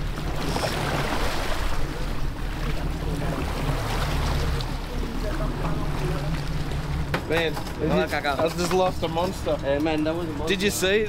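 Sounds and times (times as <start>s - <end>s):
boat engine running: 0.0s - 11.0s
water splashing along hull: 0.0s - 11.0s.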